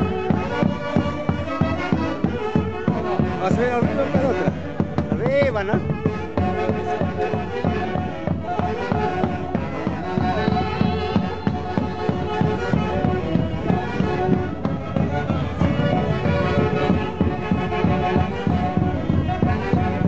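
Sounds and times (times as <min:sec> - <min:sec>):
wind instruments playing melody: 0:00.0 - 0:20.0
steady drum beat: 0:00.2 - 0:20.0.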